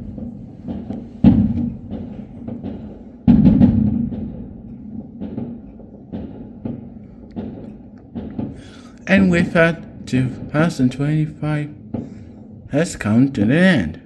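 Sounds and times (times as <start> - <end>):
fireworks booming: 0.0 - 14.0
small firework bangs: 0.0 - 14.0.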